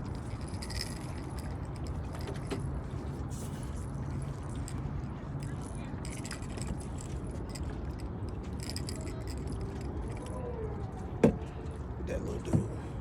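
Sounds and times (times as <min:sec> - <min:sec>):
light clinks and rattles: 0:00.0 - 0:10.5.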